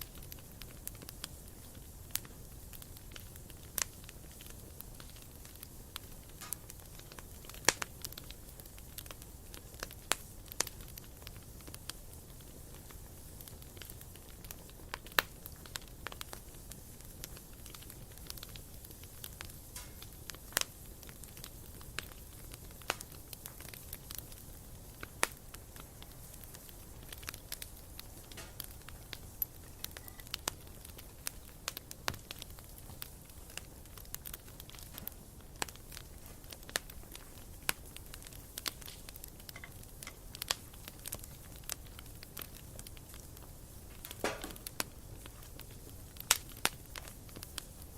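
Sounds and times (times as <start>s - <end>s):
campfire crackling: 0.0s - 47.9s
fire pops and snaps: 0.0s - 47.9s.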